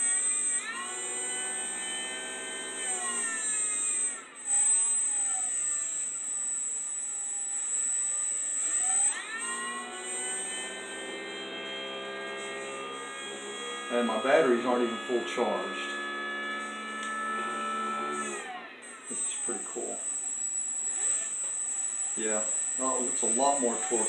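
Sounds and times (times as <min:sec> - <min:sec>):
constant high-pitched tone: 0:00.0 - 0:15.8, 0:18.1 - 0:24.0
electric motor whine: 0:00.0 - 0:24.0.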